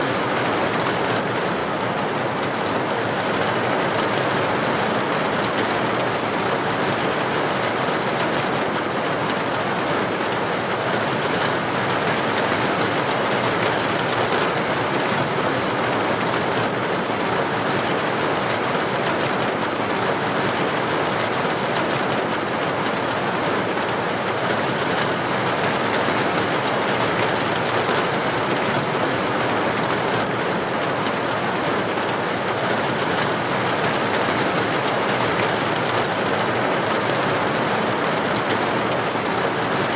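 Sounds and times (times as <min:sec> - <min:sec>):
heavy rain on a street: 0:00.0 - 0:39.9.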